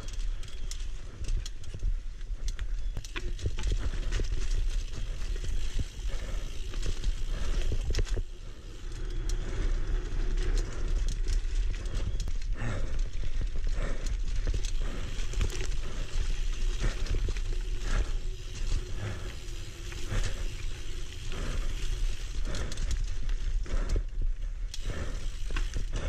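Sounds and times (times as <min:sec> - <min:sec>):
bike rattling over bumps: 0:00.0 - 0:26.0
bike tyres rumbling on dirt: 0:00.0 - 0:26.0.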